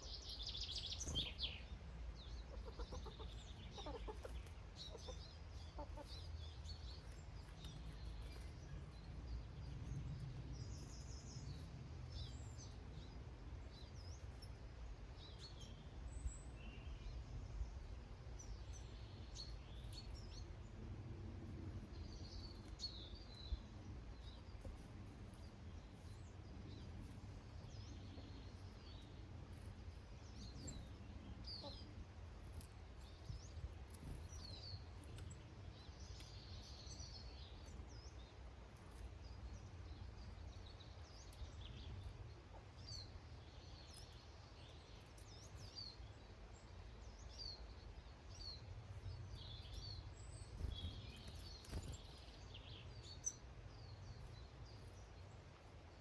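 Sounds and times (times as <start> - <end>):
low outdoor rumble: 0.0 - 56.0
small birds chirping: 0.0 - 56.0.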